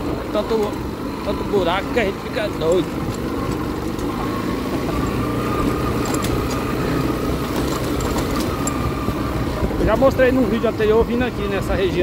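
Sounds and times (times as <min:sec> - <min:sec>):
motorcycle engine running: 0:00.0 - 0:12.0
knocks and rattles from bumps: 0:01.7 - 0:12.0.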